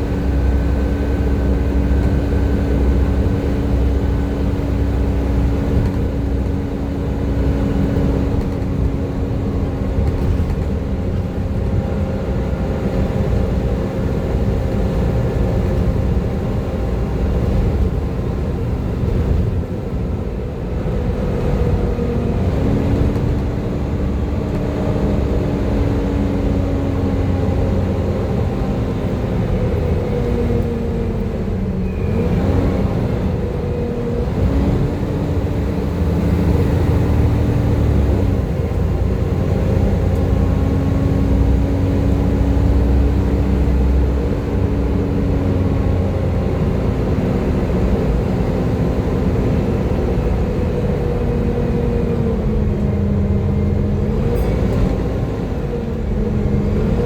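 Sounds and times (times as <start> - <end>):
bus diesel engine running hard: 0.0 - 57.0.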